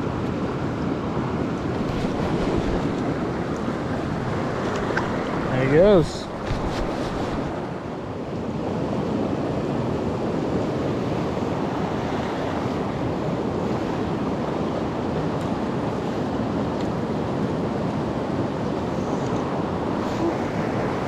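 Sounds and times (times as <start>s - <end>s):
creek water rushing: 0.1s - 21.0s.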